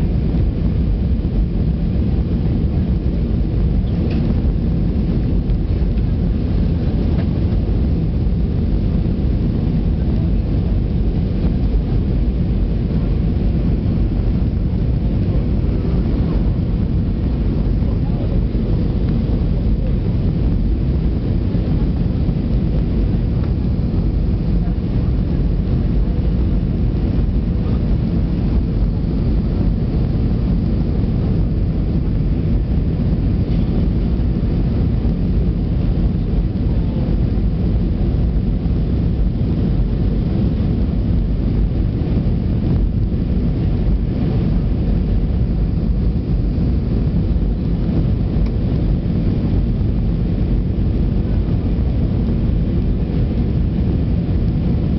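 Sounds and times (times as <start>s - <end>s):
airplane cabin engine rumble: 0.0s - 54.9s.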